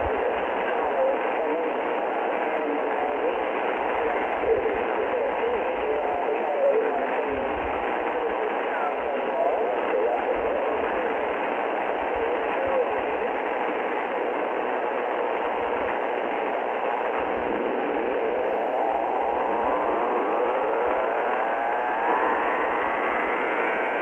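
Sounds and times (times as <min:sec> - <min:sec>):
shortwave radio static hiss: 0:00.0 - 0:24.0.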